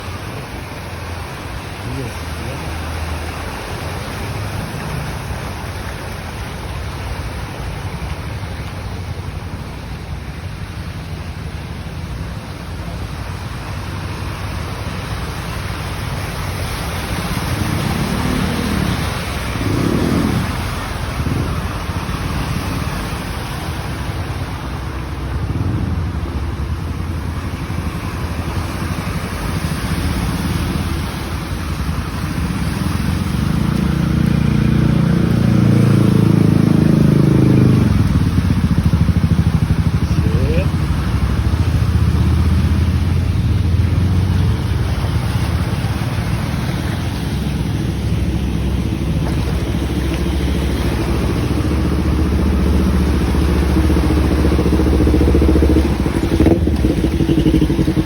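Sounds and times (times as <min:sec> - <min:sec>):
vehicle engines rumbling: 0:00.0 - 0:58.0
water washing: 0:00.0 - 0:58.0.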